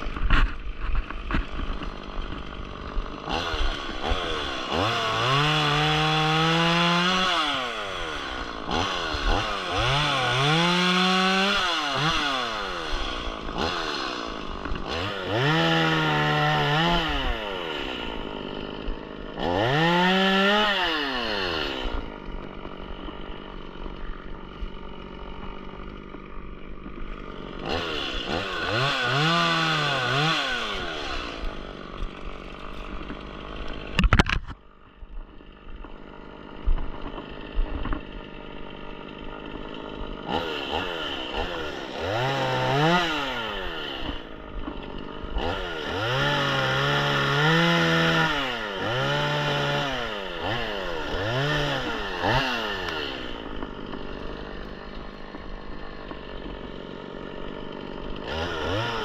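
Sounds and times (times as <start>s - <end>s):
chainsaw idling: 0.0s - 59.0s
chainsaw revving: 0.0s - 59.0s.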